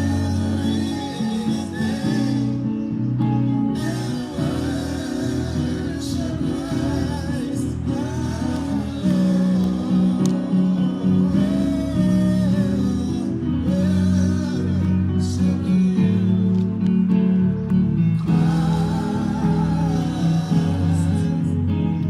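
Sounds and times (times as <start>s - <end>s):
church worship music: 0.0s - 22.0s.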